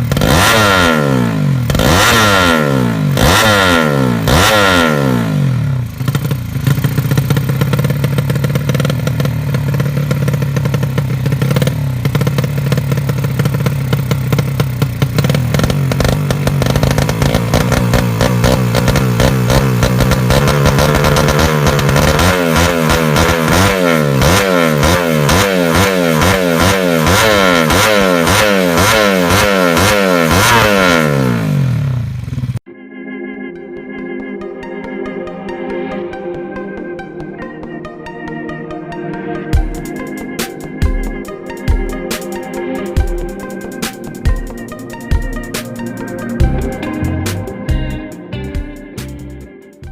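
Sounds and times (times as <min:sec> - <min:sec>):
motorcycle engine revving: 0:00.0 - 0:32.7, 0:38.9 - 0:49.9.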